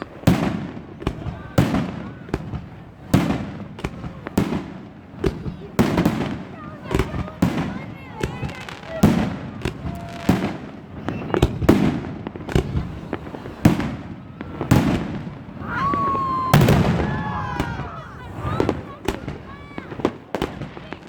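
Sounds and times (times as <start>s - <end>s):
fireworks bursting with sharp bangs: 0.0s - 21.0s
whistling firework: 0.0s - 21.0s.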